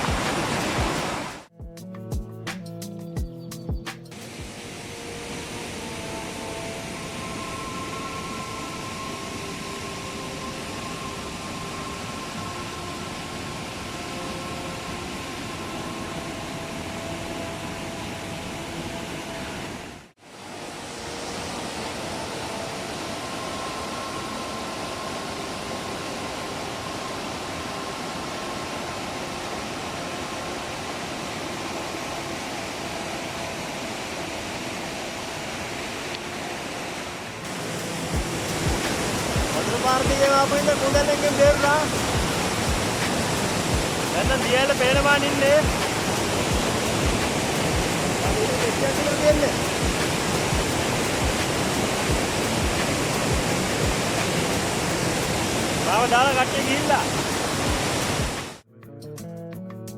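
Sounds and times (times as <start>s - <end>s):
flowing water: 0.0s - 1.5s, 4.1s - 58.7s
faint background music: 0.0s - 59.9s.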